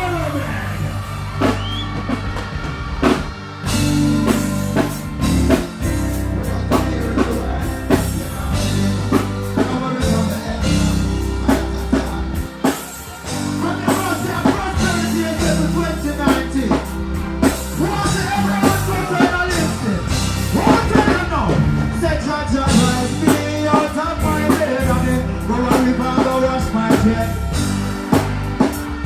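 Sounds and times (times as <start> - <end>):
heavy bass line: 0.0 - 29.0
reggae band playing: 0.0 - 29.0
person singing: 3.7 - 29.0.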